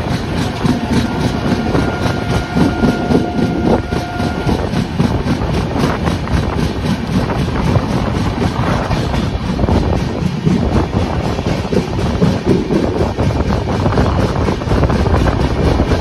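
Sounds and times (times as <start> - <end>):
rushing air: 0.0 - 16.0
train wheels rumbling on track: 0.0 - 16.0.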